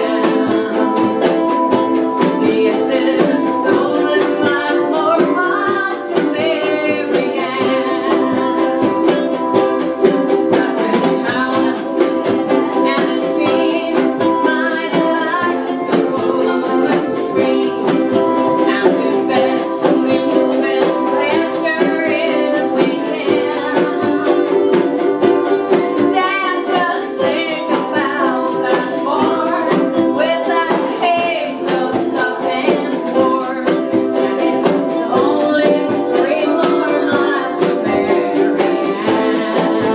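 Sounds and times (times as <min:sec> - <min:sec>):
acoustic string instruments strumming: 0:00.0 - 0:39.9
people singing together: 0:00.0 - 0:39.9.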